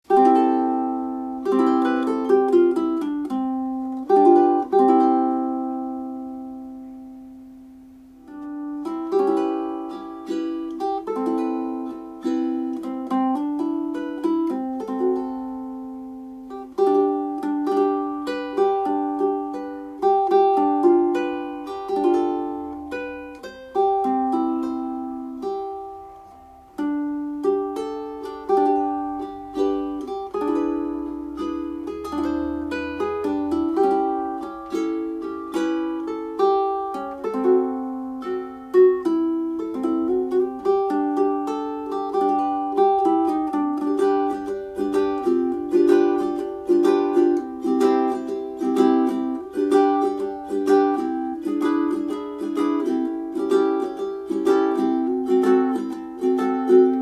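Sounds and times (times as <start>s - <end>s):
ukulele fingerpicked melody: 0.0s - 57.0s.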